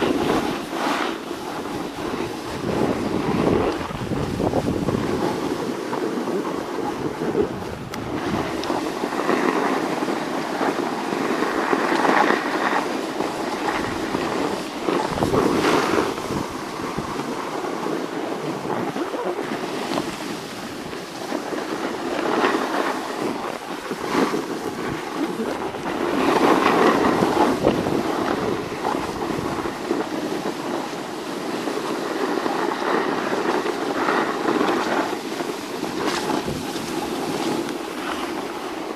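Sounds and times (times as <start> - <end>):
ski edges scraping snow: 0.0 - 38.9
wind buffeting microphone: 0.0 - 38.9.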